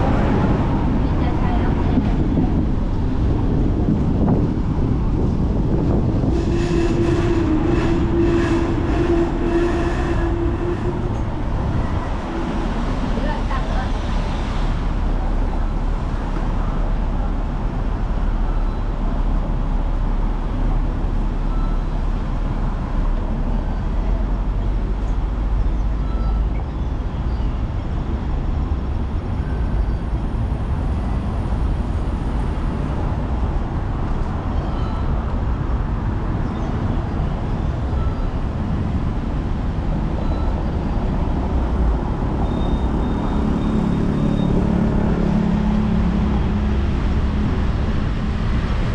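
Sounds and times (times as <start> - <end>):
city traffic: 0.0 - 48.9
tram rumbling: 0.0 - 48.9.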